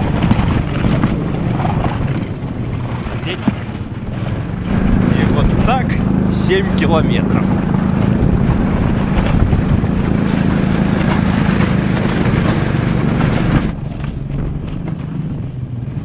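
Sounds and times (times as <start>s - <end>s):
snowmobile engine running: 0.0s - 16.0s
wind noise on microphone: 0.0s - 16.0s.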